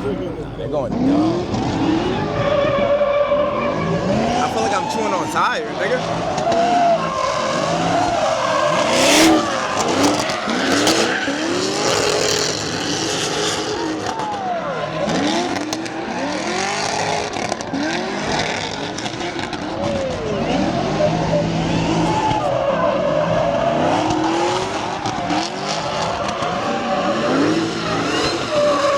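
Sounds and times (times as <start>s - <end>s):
car engine revving hard: 0.0s - 28.9s
tires screeching on pavement: 0.0s - 28.9s.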